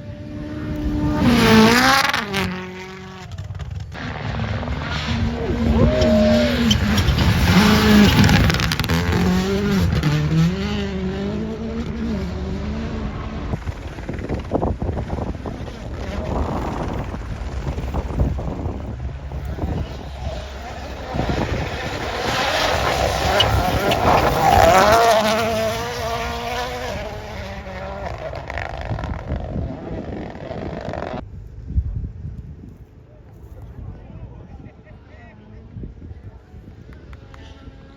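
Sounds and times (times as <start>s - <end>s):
rally car engine revving: 0.0s - 31.2s, 36.8s - 37.9s.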